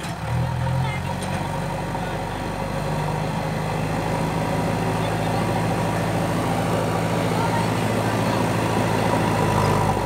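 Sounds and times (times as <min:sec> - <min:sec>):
backhoe diesel engine running: 0:00.0 - 0:10.0.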